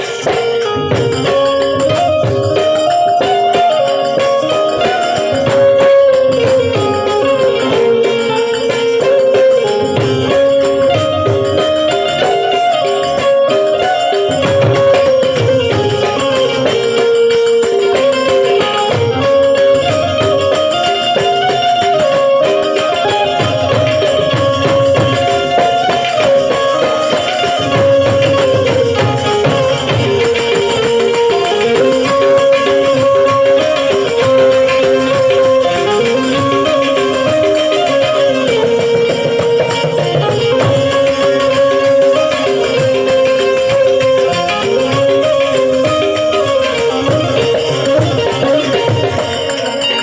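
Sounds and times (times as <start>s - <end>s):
harmonium melody: 0.0s - 50.0s
jingling hand percussion: 0.0s - 50.0s.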